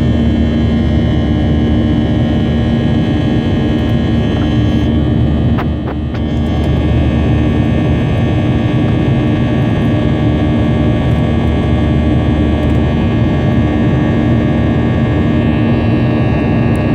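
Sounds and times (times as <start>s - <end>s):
jet engines running: 0.0s - 16.9s.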